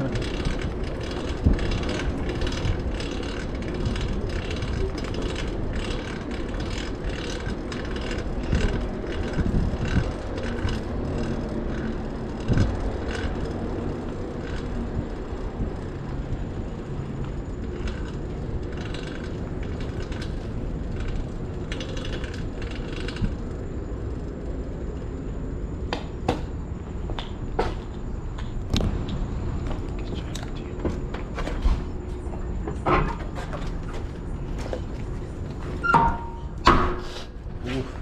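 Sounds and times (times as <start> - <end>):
bicycle drivetrain clicking: 0.0 - 38.0
wind and road noise: 0.0 - 38.0.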